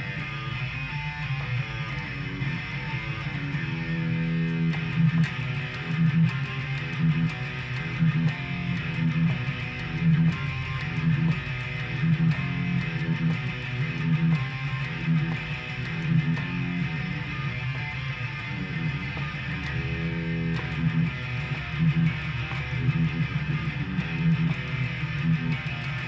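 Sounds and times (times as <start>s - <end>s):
electric guitar riff: 0.0s - 26.0s.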